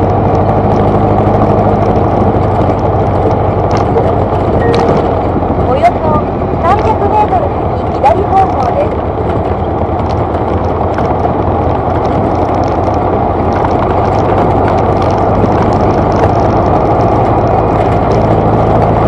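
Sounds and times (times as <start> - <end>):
car cruising drone: 0.0 - 19.0.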